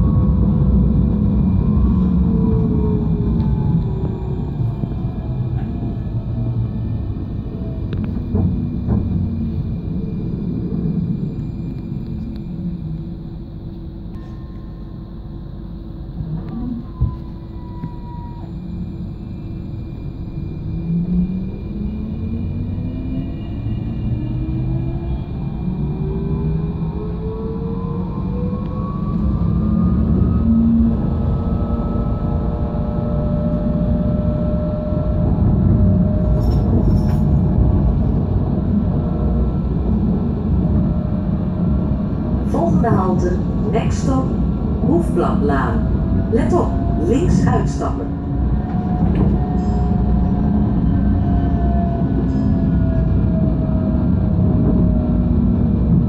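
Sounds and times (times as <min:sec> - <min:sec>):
tram rumbling along track: 0:00.0 - 0:56.0.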